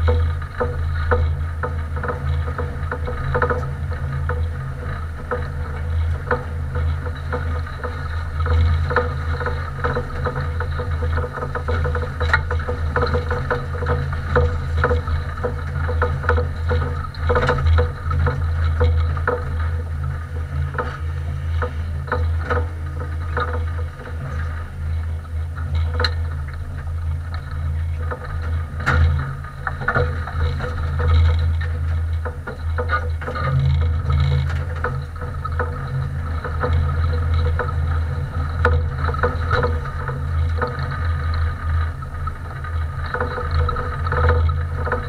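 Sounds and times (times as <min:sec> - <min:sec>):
car body rattles and clicks: 0:00.0 - 0:45.0.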